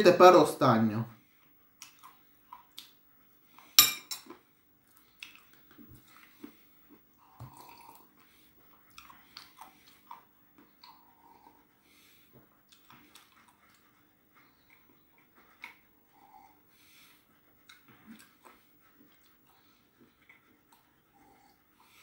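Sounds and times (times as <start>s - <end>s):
person chewing crunchy peanuts: 1.8s - 16.6s, 17.6s - 22.0s.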